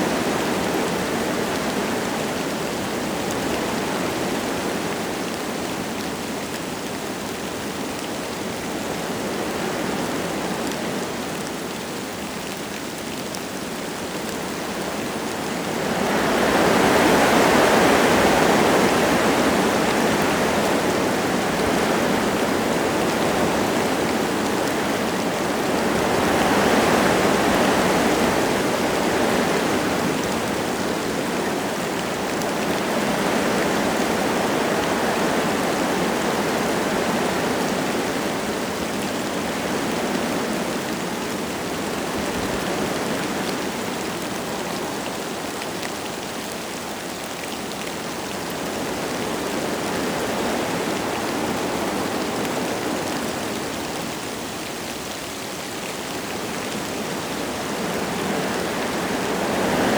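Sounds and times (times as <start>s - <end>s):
light rain falling: 0.0s - 59.9s
wind gusting through trees: 0.0s - 59.9s.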